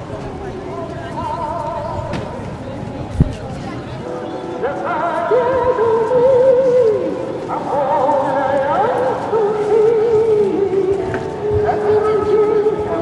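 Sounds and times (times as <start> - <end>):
voices singing with vibrato: 0.0 - 13.0.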